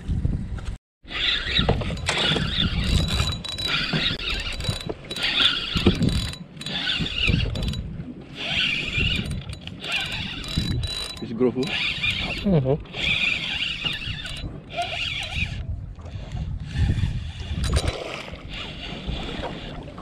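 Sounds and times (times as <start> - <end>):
low wind rumble: 0.0 - 20.0
fishing reel whirring: 1.1 - 15.7, 16.6 - 20.0.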